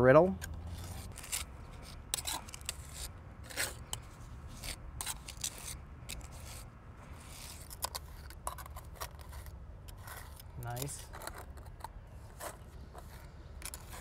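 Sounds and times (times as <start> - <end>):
trowel scraping mortar: 0.7 - 14.0.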